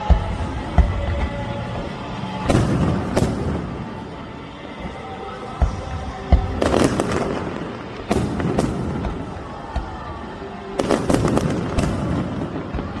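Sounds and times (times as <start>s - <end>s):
fireworks bursting with bangs: 0.0s - 13.0s
fireworks crackling: 0.0s - 13.0s.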